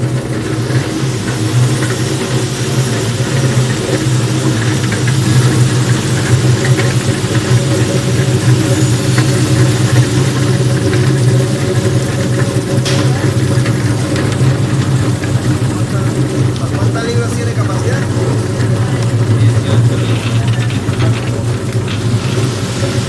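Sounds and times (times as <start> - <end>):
machine motor hum: 0.0 - 23.0.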